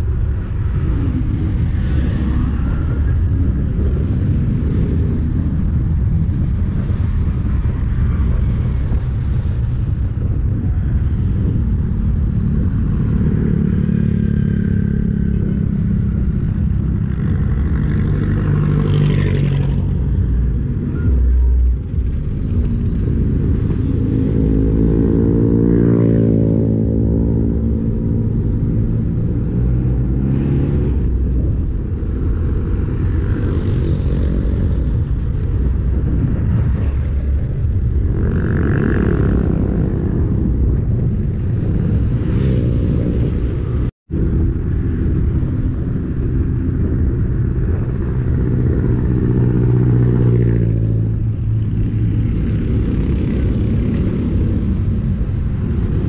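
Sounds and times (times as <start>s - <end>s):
road traffic: 0.0s - 56.0s
wind rushing over microphone: 0.0s - 56.0s.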